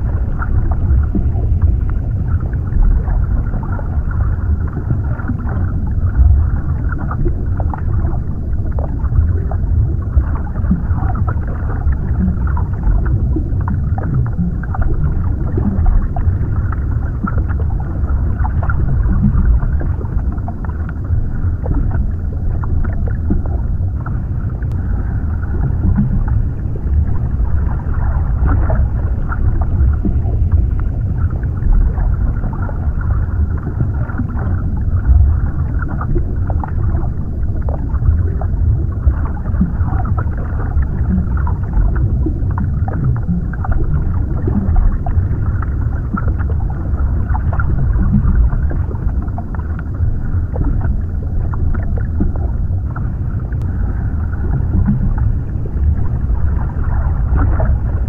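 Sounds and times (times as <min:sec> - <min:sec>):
muffled underwater rumble: 0:00.0 - 0:58.0
soft bubbling and gurgling: 0:00.0 - 0:58.0.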